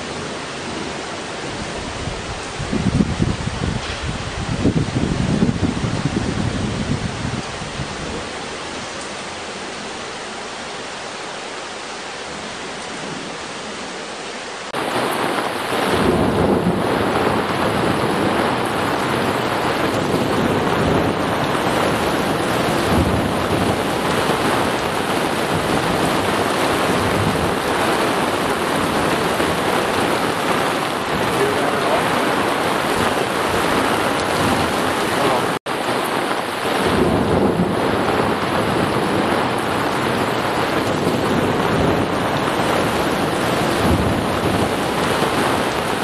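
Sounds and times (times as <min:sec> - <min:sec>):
thunder rumbling: 0:00.0 - 0:10.0, 0:14.7 - 0:46.0
rain falling: 0:00.0 - 0:46.0.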